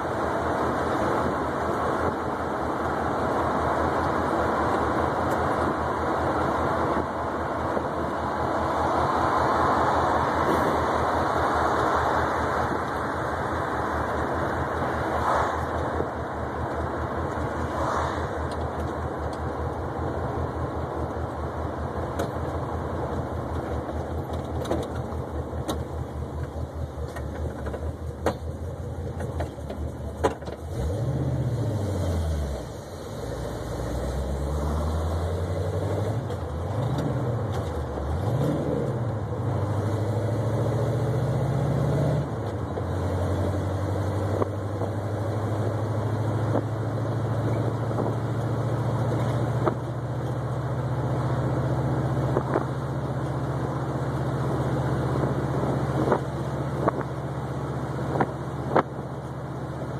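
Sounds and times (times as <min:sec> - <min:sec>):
car engine while driving: 0:00.0 - 0:59.9.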